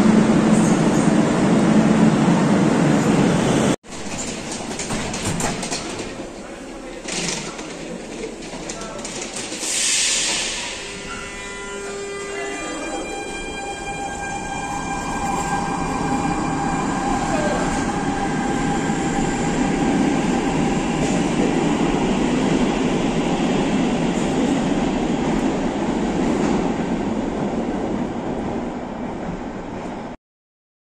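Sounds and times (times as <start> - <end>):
train wheel and track rumble: 0.0 - 30.2.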